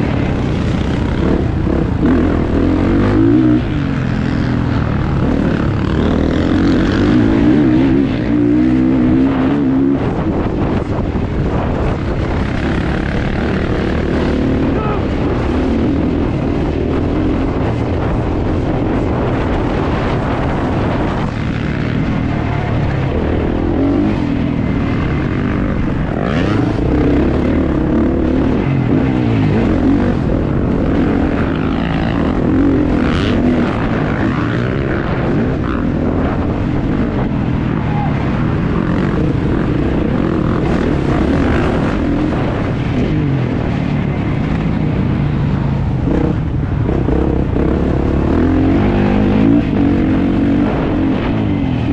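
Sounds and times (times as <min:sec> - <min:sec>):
motocross bike engine: 0:00.0 - 0:51.9
wind on microphone: 0:00.0 - 0:51.9.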